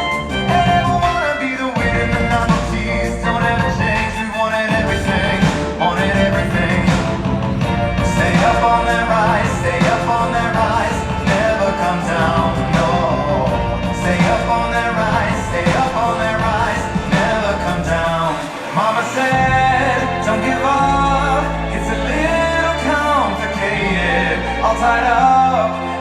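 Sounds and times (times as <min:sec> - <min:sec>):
show music with singing voice: 0:00.0 - 0:26.0
sustained bass: 0:00.0 - 0:26.0.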